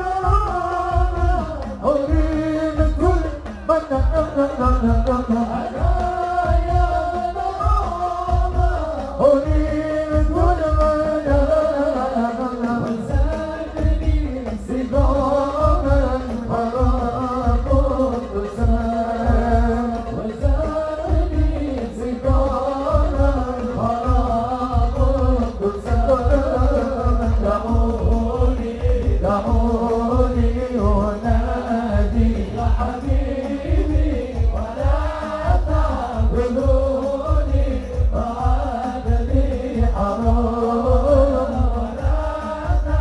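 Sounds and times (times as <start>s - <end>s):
frame drums beating: 0.0s - 43.0s
man singing over loudspeaker: 0.0s - 43.0s.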